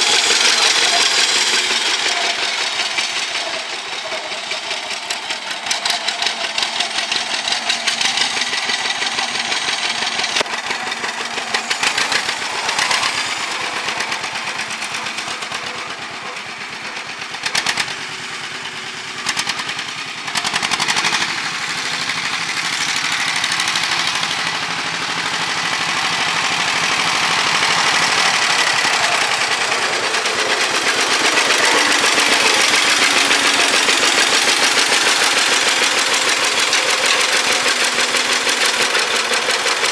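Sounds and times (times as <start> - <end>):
tractor engine exhaust beat: 0.0 - 39.9.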